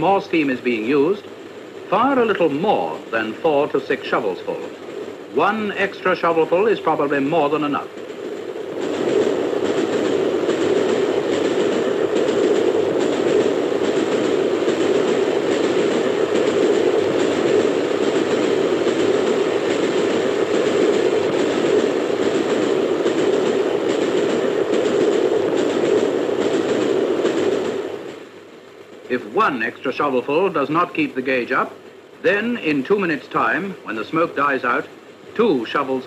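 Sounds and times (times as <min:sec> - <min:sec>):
steam locomotive rumble: 0:00.0 - 0:36.0.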